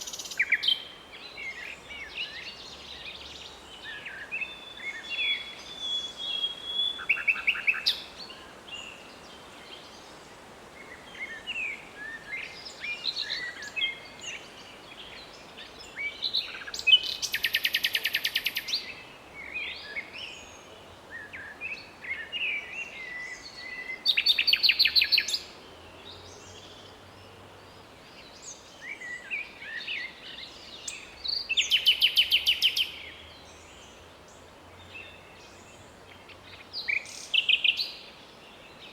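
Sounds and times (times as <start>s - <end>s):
nightingale singing: 0.0s - 8.1s, 11.1s - 20.5s, 21.1s - 33.7s, 34.9s - 38.2s.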